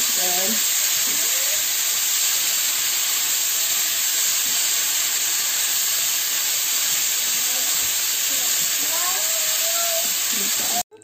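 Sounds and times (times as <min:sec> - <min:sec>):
food sizzling in frying pan: 0:00.0 - 0:10.9.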